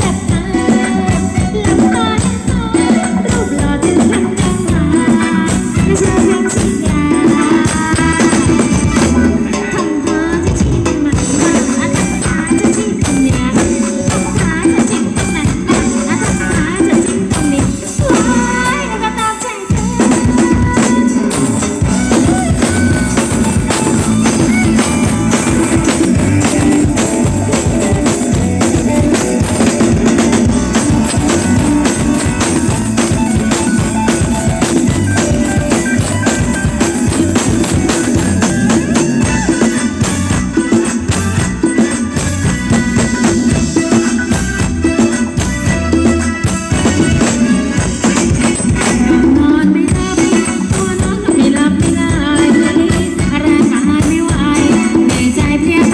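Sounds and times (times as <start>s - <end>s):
jingling tambourine: 0.0s - 9.3s, 11.2s - 55.9s
band playing upbeat dance music: 0.0s - 55.9s
drum kit: 0.0s - 55.9s.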